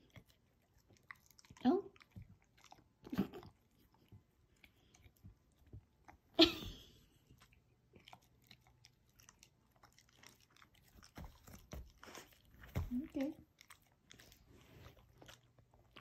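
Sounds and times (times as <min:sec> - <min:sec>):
puppy chewing: 0:00.0 - 0:16.0.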